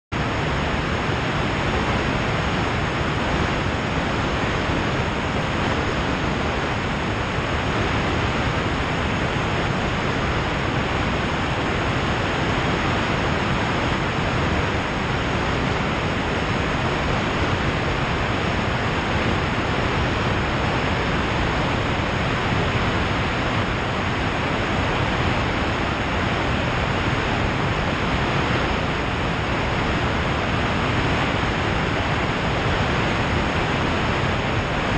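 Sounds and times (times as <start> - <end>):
rush of airflow: 0.2 - 34.9.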